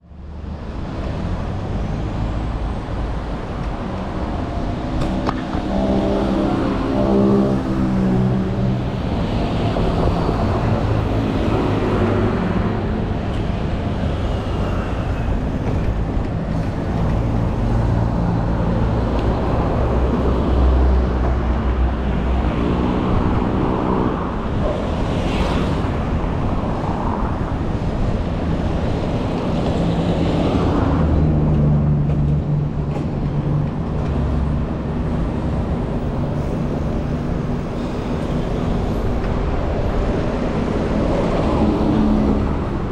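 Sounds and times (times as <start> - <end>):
traffic noise: 0.0 - 42.9
vehicles passing close by: 0.0 - 42.9.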